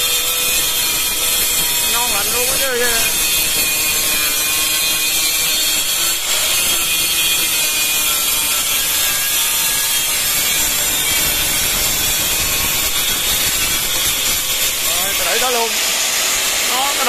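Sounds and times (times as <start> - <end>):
angle grinder cutting tile: 0.0 - 17.0.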